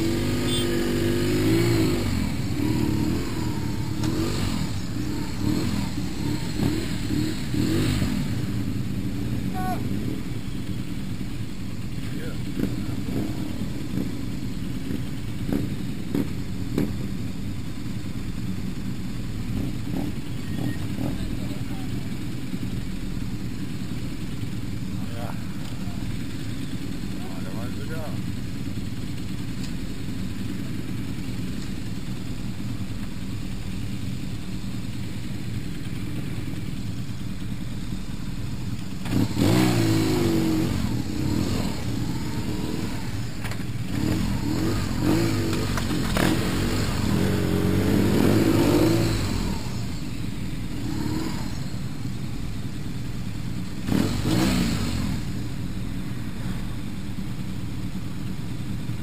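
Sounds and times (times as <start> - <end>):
motorcycle engines idling and revving: 0.0 - 59.0.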